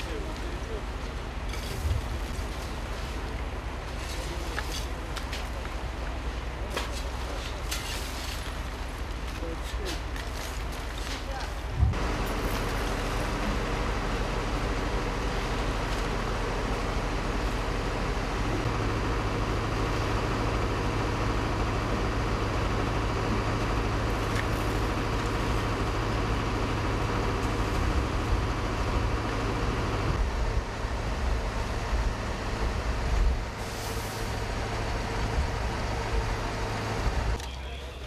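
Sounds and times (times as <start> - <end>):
heavy vehicle engines rumbling: 0.0 - 38.0.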